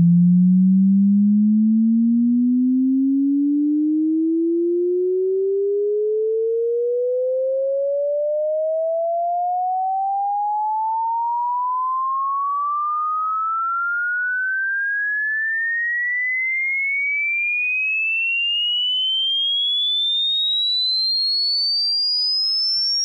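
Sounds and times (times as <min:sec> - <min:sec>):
sine tone sweeping upward: 0:00.0 - 0:23.0.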